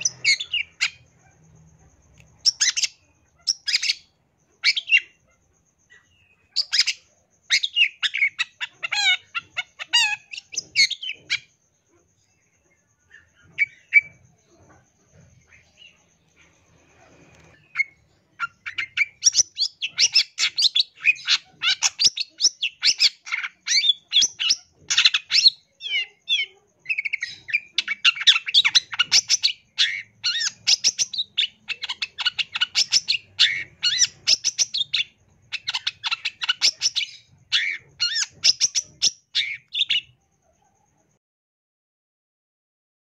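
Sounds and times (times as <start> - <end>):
bird singing chirps and trills: 0.0 - 40.4.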